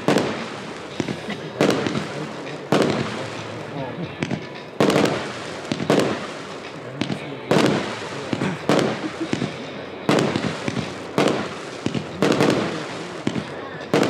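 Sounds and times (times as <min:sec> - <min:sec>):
fireworks bangs: 0:00.0 - 0:14.0
fireworks pops and crackle: 0:00.0 - 0:14.0.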